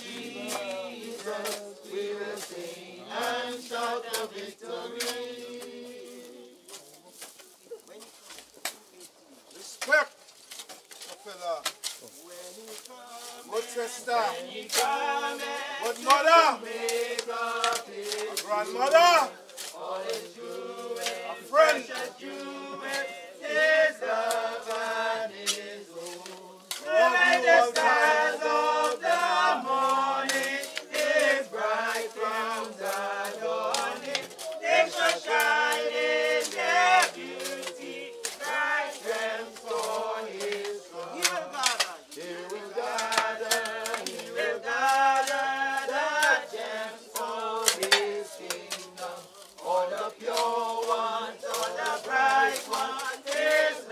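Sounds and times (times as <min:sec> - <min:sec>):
group singing a hymn: 0:00.0 - 0:07.3, 0:12.1 - 0:53.9.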